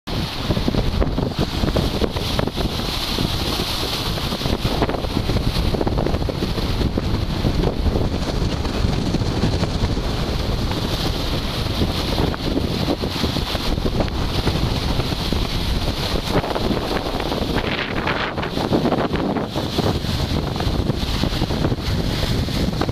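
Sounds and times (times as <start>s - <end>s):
choppy river water: 0.1s - 22.9s
wind buffeting microphone: 0.1s - 22.9s.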